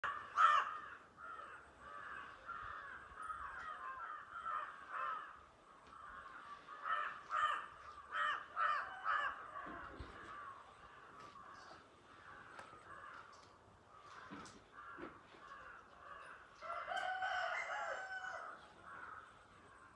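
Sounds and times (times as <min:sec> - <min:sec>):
crows cawing: 0:00.0 - 0:19.9.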